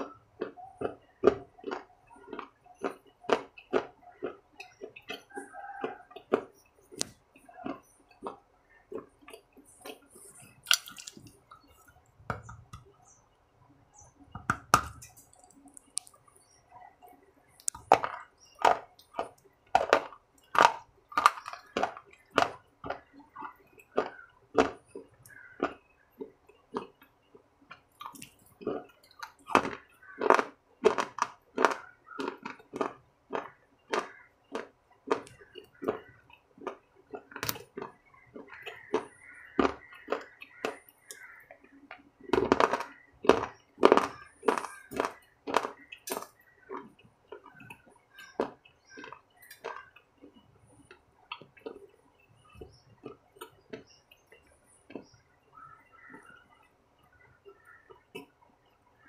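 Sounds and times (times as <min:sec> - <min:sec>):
person chewing food: 0:00.0 - 0:13.2, 0:14.0 - 0:58.4.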